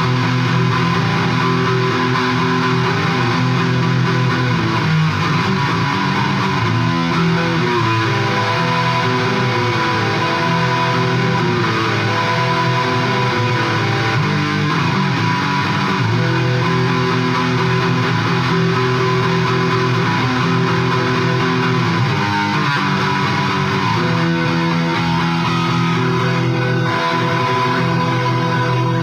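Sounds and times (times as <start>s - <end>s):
electric guitar playing chords: 0.0s - 29.0s.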